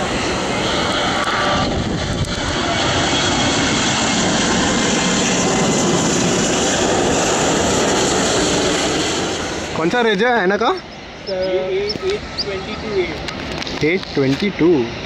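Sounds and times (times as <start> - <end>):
faint jet whine: 0.0 - 15.0
jet airliner engines rushing: 0.0 - 15.0.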